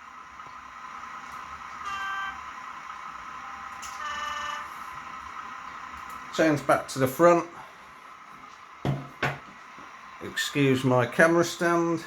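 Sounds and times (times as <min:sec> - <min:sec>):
engine sound drone: 0:00.0 - 0:12.0.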